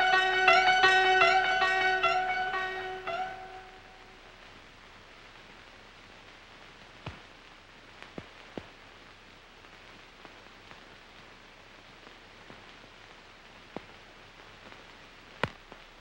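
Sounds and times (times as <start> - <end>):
film soundtrack hiss: 0.0 - 16.0.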